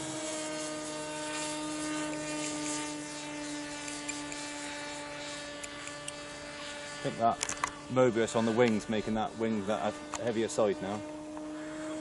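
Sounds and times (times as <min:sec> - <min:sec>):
model plane propeller buzzing: 0:00.0 - 0:12.0.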